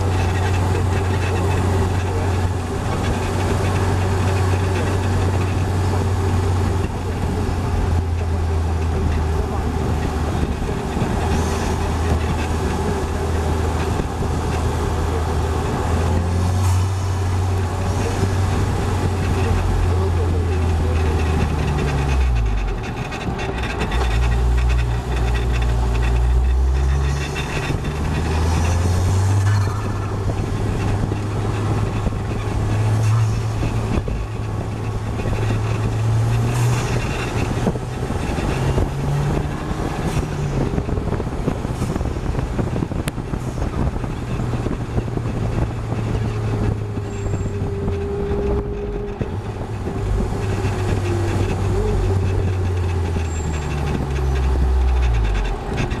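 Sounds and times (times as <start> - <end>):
engine revving with gear changes: 0.0 - 56.0
road noise: 0.0 - 56.0
wind noise: 0.0 - 56.0.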